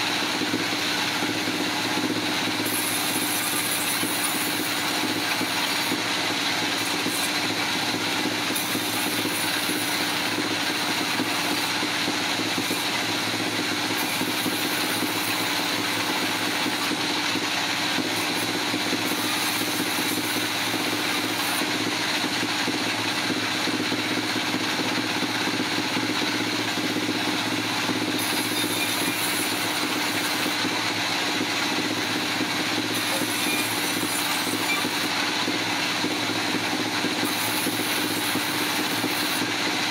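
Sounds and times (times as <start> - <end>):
sawmill machinery humming and whining: 0.0 - 39.9.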